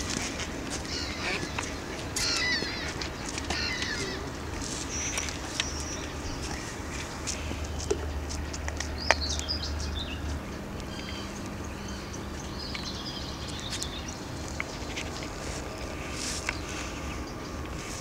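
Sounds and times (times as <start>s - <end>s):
low steady hum: 0.0s - 18.0s
songbirds chirping: 0.0s - 18.0s.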